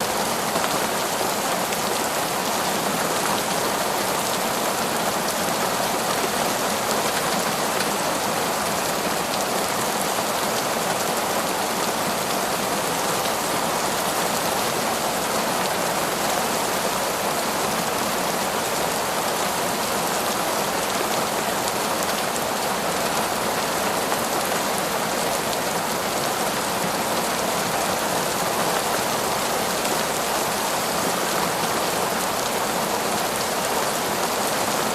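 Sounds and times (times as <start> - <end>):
heavy rain on foliage: 0.0 - 34.9.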